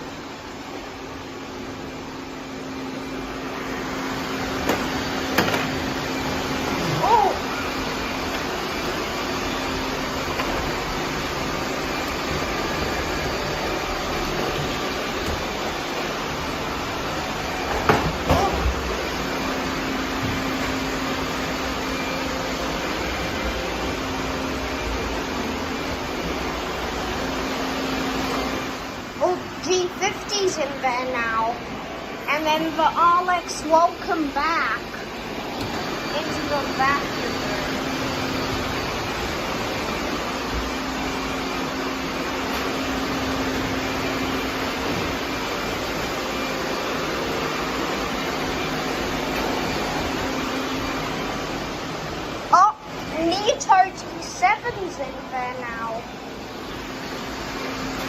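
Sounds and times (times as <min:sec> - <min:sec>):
robot vacuum whirring: 0:01.1 - 0:58.0.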